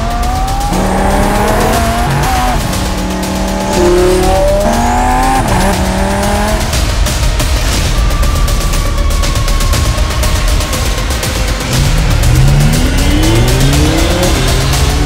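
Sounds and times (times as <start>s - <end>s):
car engine accelerating: 0.0s - 8.6s, 10.2s - 15.0s.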